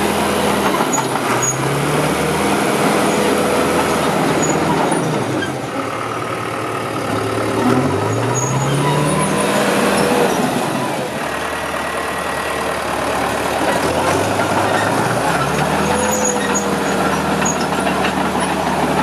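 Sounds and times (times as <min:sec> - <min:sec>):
bulldozer diesel engine revving: 0:00.0 - 0:19.0.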